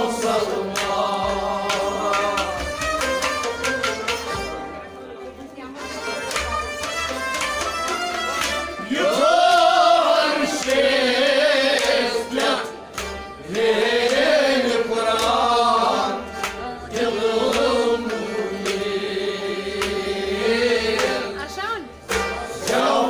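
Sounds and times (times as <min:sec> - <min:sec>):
harmonium: 0:00.0 - 0:23.0
plucked rabab strumming: 0:00.0 - 0:23.0.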